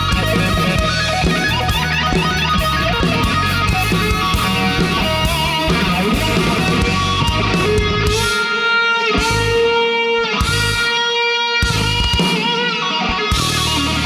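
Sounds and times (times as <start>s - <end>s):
bass guitar: 0.0s - 8.5s, 9.2s - 14.0s
drums: 0.0s - 14.0s
lead electric guitar bending notes: 0.0s - 14.0s.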